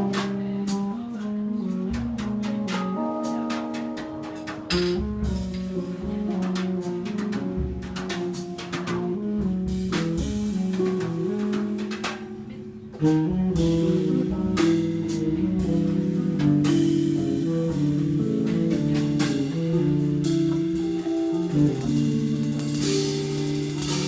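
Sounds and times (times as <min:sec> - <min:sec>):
guitar: 0:00.0 - 0:24.0
jazz band playing: 0:00.0 - 0:24.0.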